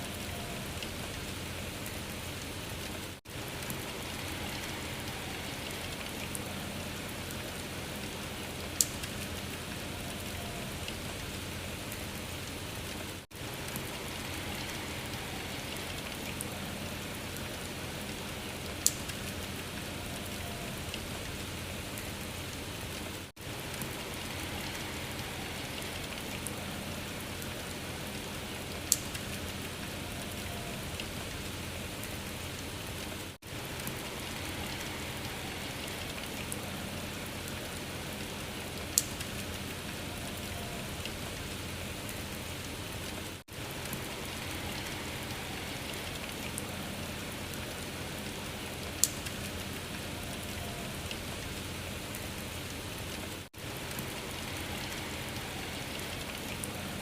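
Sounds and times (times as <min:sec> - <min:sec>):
rain-like patter and hiss: 0:00.0 - 0:57.0.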